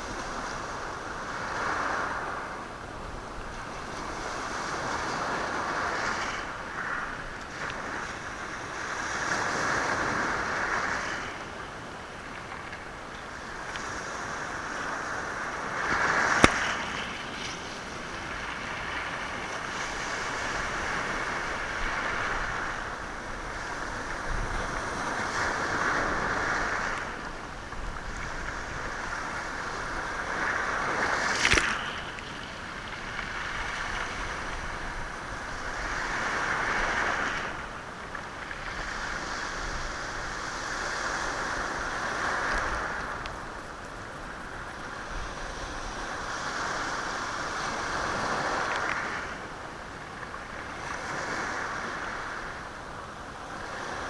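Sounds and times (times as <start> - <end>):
sea waves on a stony shore: 0.0 - 54.0.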